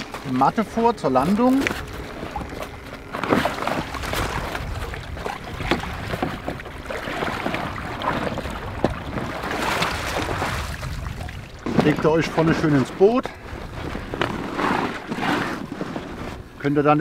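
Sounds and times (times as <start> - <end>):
low wind rumble: 0.0 - 17.0
water splashing and sloshing: 0.0 - 17.0.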